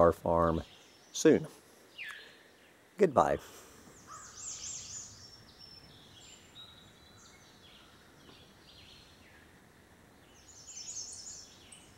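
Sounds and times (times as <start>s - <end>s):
songbird chirping: 0.0s - 11.9s
woodland background hiss: 0.0s - 11.9s.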